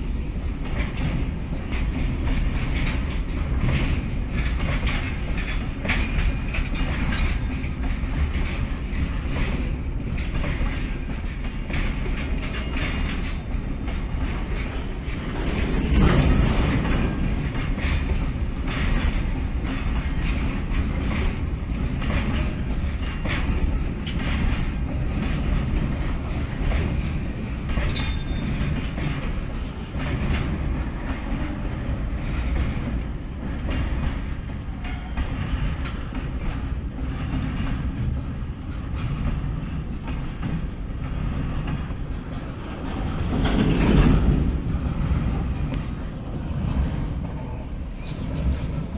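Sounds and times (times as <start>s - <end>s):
freight train rolling past: 0.0s - 48.9s
steel wheels clicking over rail joints: 0.0s - 48.9s.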